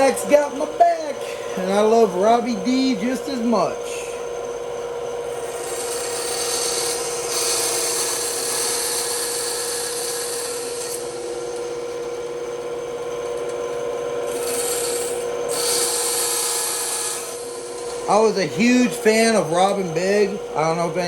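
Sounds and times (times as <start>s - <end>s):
bandsaw cutting wood: 0.0s - 12.8s, 13.4s - 21.0s.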